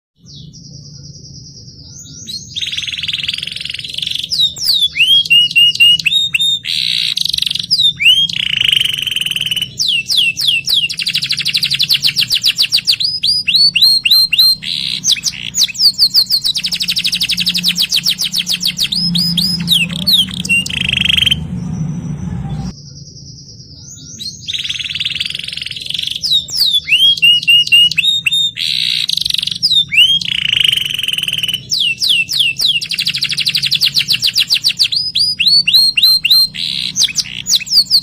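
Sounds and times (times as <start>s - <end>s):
canary singing: 0.2s - 38.0s.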